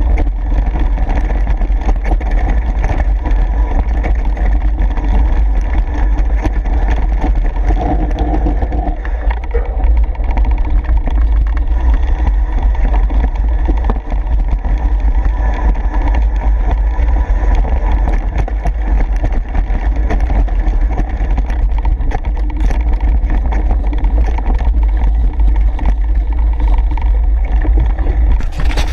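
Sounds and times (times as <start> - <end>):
bike clicks and rattles: 0.0 - 28.9
wind buffeting microphone: 0.0 - 28.9.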